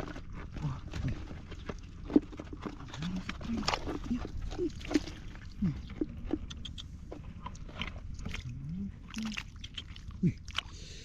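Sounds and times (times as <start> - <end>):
shallow water splashing and sloshing: 0.0 - 10.8.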